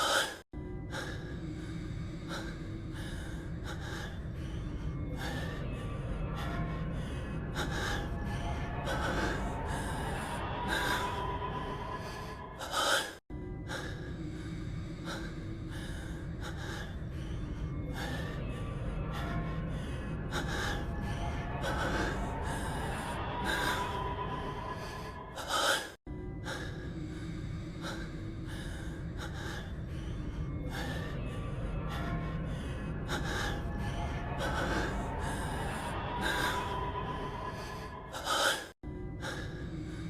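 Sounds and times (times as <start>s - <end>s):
background music: 0.0s - 40.0s
man breathing heavily: 0.0s - 40.0s.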